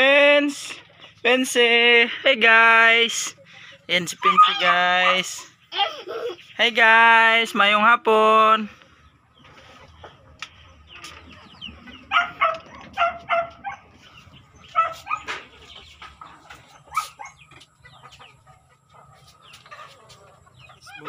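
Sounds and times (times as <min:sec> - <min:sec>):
chickens clucking: 0:00.0 - 0:01.2, 0:02.0 - 0:07.0, 0:08.6 - 0:21.0.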